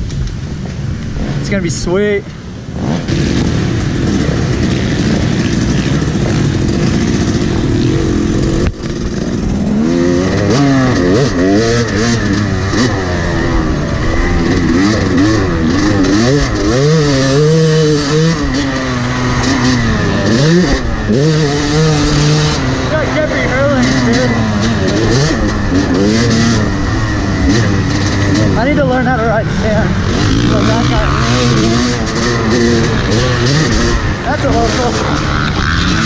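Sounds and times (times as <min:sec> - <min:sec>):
dirt bike engine revving: 0:01.0 - 0:36.0.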